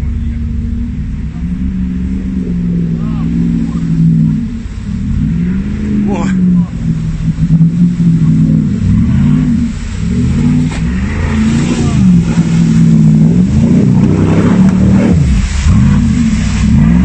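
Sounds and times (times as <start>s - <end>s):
engine revving hard: 0.0s - 17.0s.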